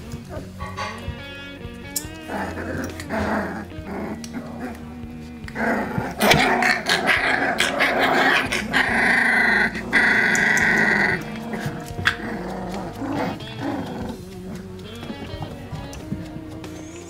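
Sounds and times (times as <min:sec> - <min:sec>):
puppies growling and yipping: 0:00.0 - 0:17.0
puppy squealing: 0:00.0 - 0:17.0.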